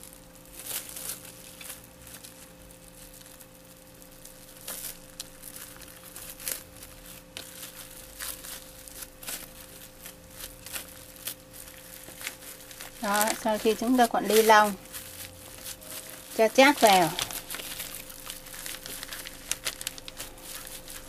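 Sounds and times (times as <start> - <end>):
plastic sheet crinkling: 0.0 - 21.0.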